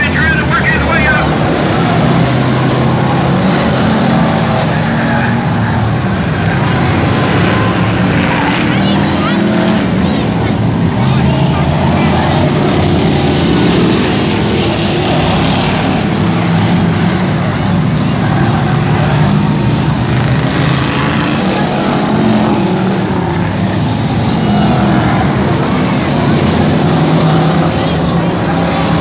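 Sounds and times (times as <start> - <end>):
racing car engines droning: 0.0 - 29.0.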